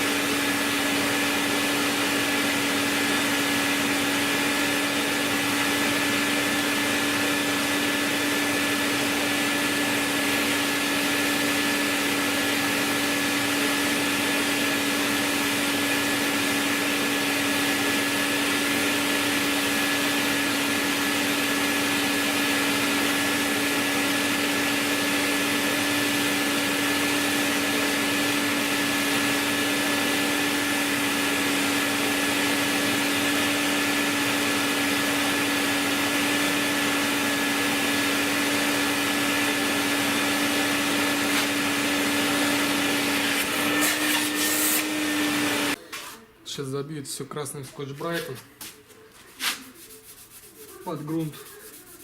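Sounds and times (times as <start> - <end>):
orbital sander running: 0.0 - 45.8.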